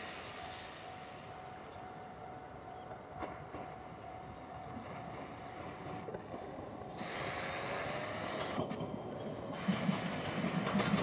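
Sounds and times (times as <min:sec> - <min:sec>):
electric train running: 0:00.0 - 0:11.0.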